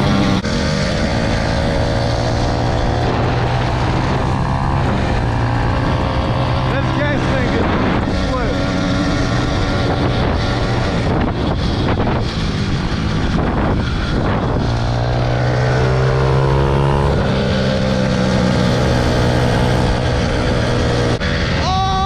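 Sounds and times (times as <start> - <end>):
two-stroke engine running: 0.0 - 21.6
wind on microphone: 0.0 - 21.6.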